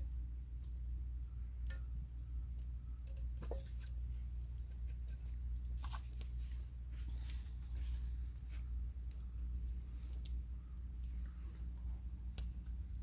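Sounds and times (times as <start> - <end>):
campfire crackling: 0.4 - 13.0.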